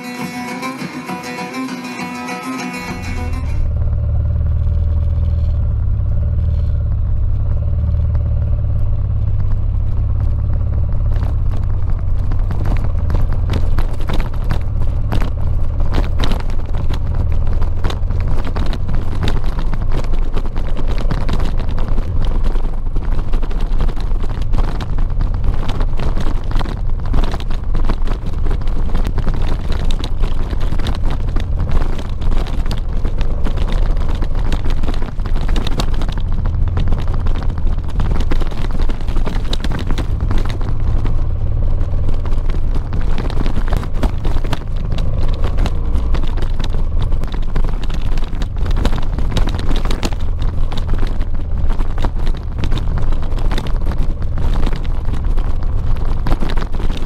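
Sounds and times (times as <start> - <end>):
motorcycle engine running: 0.0 - 57.0
knocks and rattles on gravel: 4.7 - 57.0.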